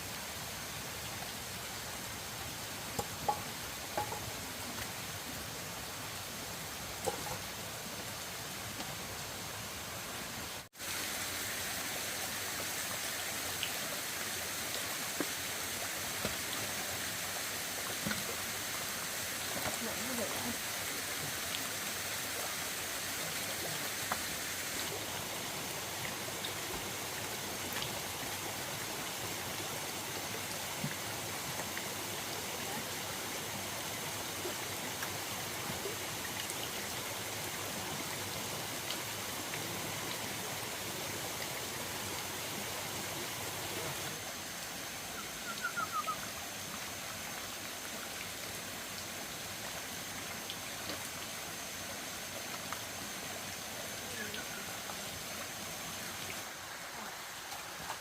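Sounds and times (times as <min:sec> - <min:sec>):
forest stream rushing: 0:00.0 - 0:58.0.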